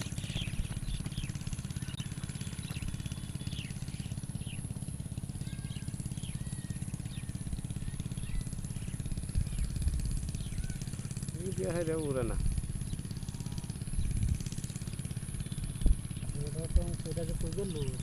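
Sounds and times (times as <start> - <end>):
birds chirping: 0.0 - 18.0
small engine humming: 0.0 - 18.0.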